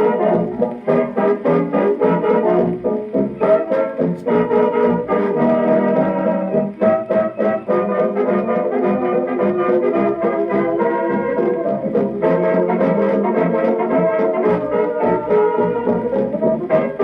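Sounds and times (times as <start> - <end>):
brass section playing tune: 0.0 - 17.0
dance band playing: 0.0 - 17.0.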